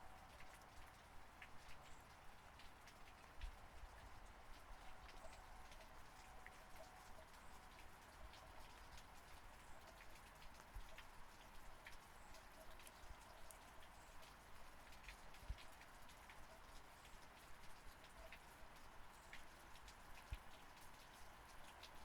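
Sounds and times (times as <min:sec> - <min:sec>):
soft rain hiss: 0:00.0 - 0:22.0
raindrops ticking: 0:00.1 - 0:22.0.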